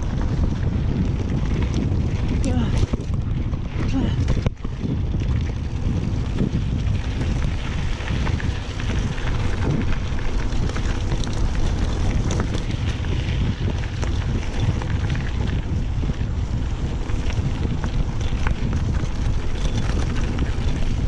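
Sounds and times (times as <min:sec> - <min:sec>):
bike rattling over rough ground: 0:00.0 - 0:21.0
wind buffeting microphone: 0:00.0 - 0:21.0.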